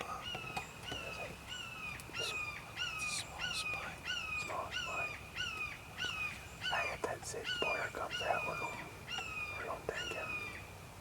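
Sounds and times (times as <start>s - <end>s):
bird calling: 0.0s - 10.8s.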